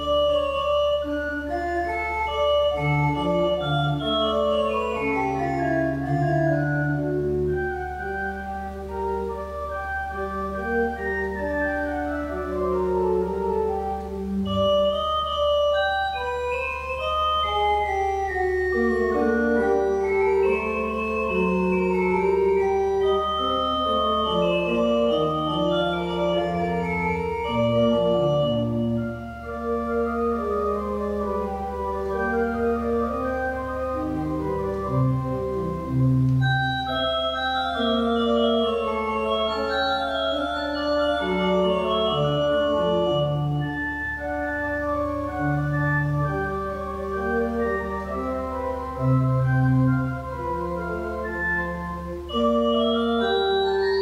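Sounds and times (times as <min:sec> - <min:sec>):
pipe organ playing held chords: 0:00.0 - 0:54.0.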